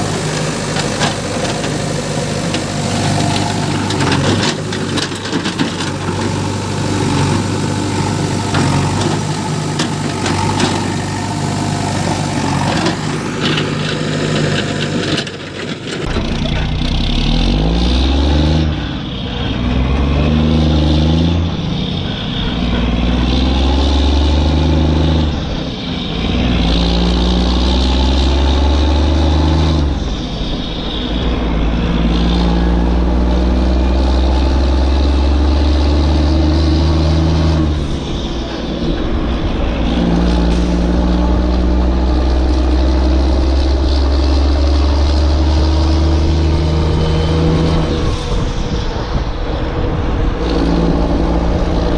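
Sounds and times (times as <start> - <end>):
heavy machine engine running: 0.0 - 51.9.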